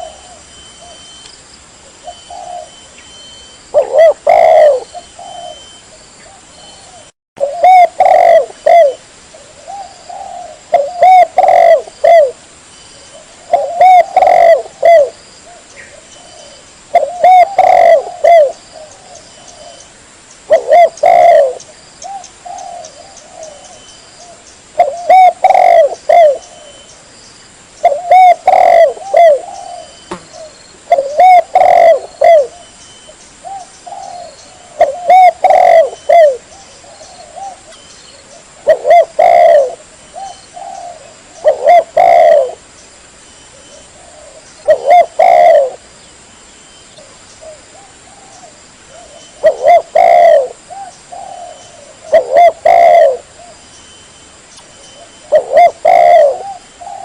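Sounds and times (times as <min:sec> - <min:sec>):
dove cooing: 0:00.0 - 0:01.2, 0:01.9 - 0:12.4, 0:13.0 - 0:19.8, 0:20.5 - 0:26.9, 0:27.8 - 0:32.8, 0:33.4 - 0:42.7, 0:43.5 - 0:45.8, 0:47.0 - 0:53.6, 0:55.0 - 0:57.0.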